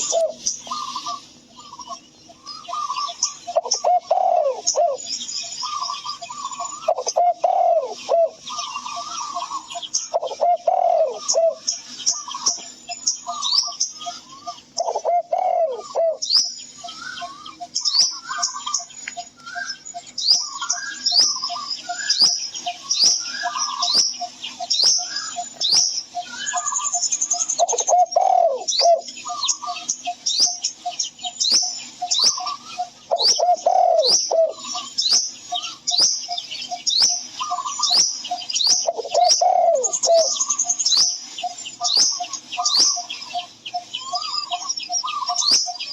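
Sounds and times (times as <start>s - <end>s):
dove cooing: 0.0s - 45.9s
small birds chirping: 0.0s - 45.9s.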